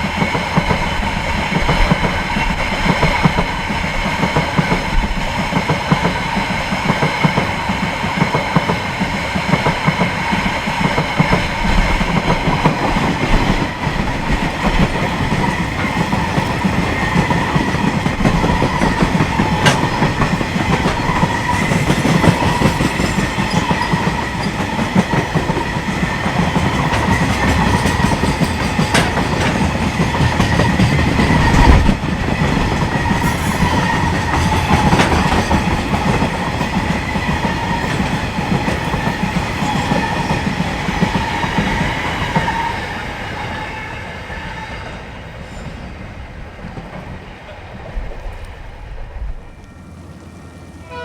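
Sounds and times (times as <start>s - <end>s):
train wheels clattering over rails: 0.0s - 48.7s.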